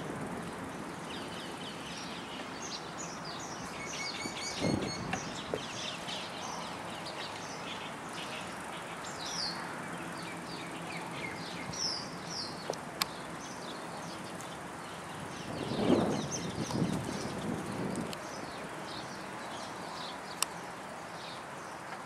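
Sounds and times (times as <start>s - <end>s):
outdoor background hiss: 0.0s - 22.0s
small birds chirping: 0.4s - 22.0s.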